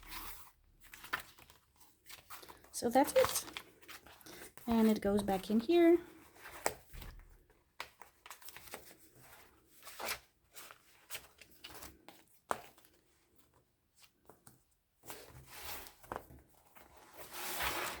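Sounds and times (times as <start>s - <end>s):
paper and card rustling: 0.0s - 18.0s.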